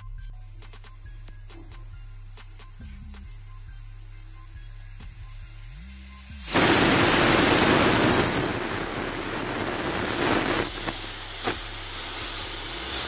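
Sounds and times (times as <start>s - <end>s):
pressure cooker steam hiss: 0.4s - 13.0s.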